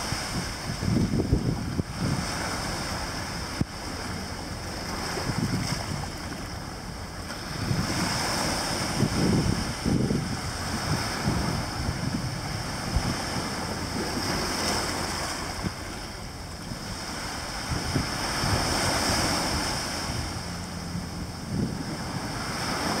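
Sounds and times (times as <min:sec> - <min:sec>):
small waves washing on beach: 0:00.0 - 0:23.0
wind buffeting microphone: 0:00.0 - 0:23.0.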